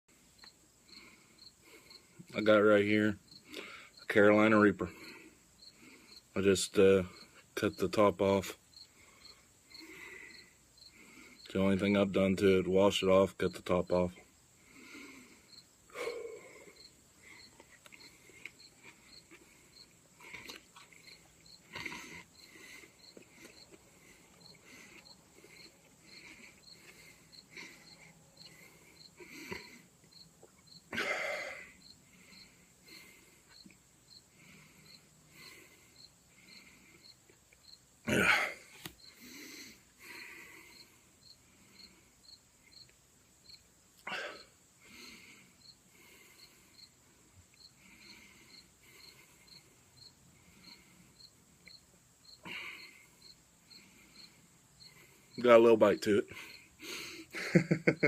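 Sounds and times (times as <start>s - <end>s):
crickets chirping: 0.1s - 58.0s
high insect hum: 0.1s - 58.0s.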